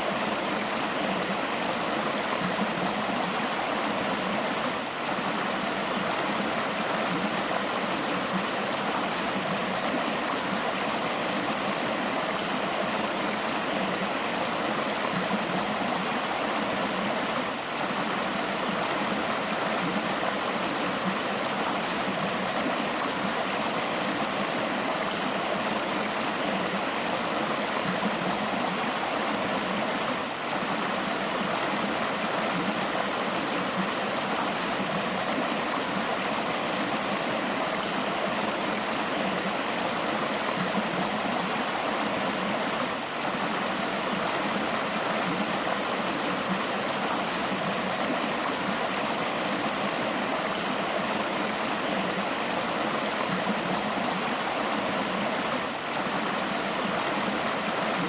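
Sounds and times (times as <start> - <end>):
river water babbling: 0.0 - 58.0.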